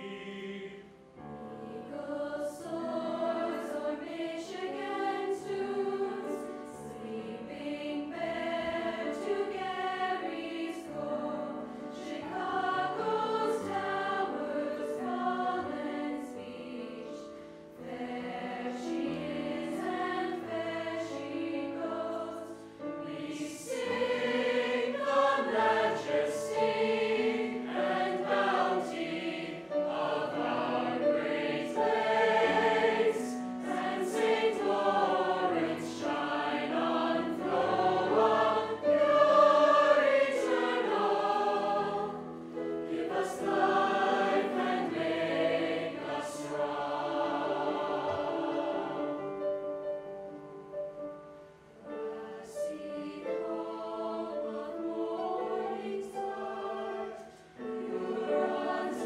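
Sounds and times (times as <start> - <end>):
choir singing: 0.0 - 50.0, 51.8 - 59.0.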